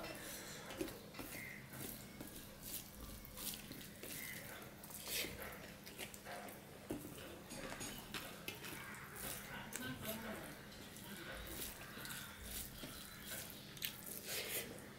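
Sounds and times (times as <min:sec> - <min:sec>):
fingers squelching wet rice: 0:00.8 - 0:06.6, 0:08.2 - 0:14.9.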